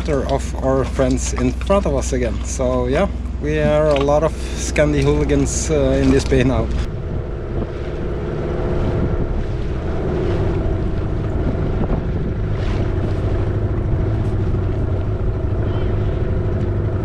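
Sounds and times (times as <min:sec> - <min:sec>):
outboard motor running: 0:00.0 - 0:17.0
water rushing: 0:00.0 - 0:17.0
wind buffeting microphone: 0:00.0 - 0:17.0.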